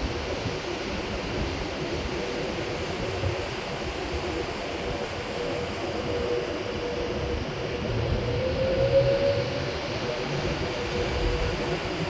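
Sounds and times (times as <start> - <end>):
faint train whine: 0.0 - 12.0
electric train rumbling past: 0.1 - 12.0.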